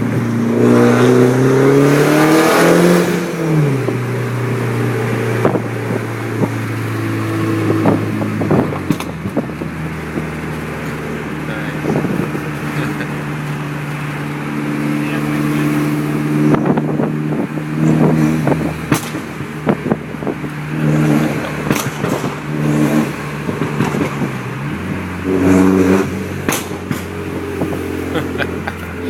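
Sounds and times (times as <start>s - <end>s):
exhaust cracks: 0.0s - 29.0s
loud car engine droning: 0.0s - 29.0s.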